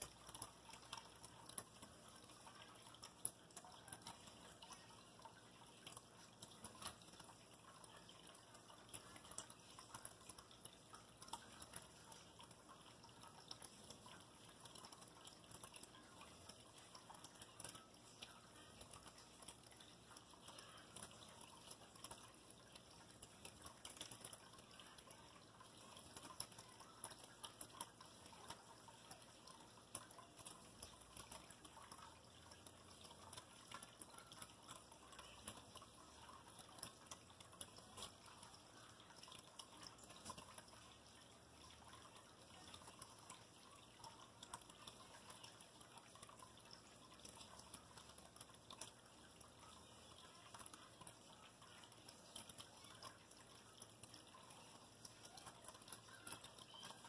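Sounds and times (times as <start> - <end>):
water drips and splashes: 0.0 - 57.0
water trickling into basin: 0.0 - 57.0.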